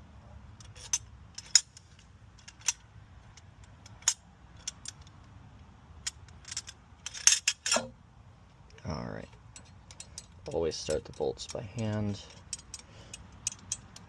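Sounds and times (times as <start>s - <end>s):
metallic clicks of engine parts: 0.5s - 14.0s.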